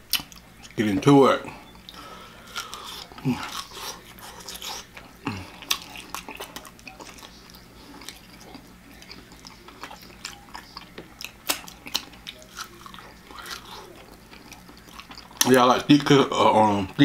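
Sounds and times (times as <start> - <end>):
mouth chewing with clicks and smacks: 0.1 - 0.8, 1.5 - 16.2.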